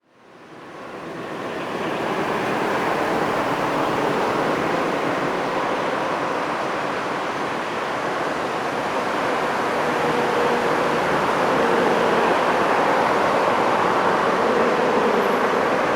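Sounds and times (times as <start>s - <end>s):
passing traffic: 0.5s - 15.9s.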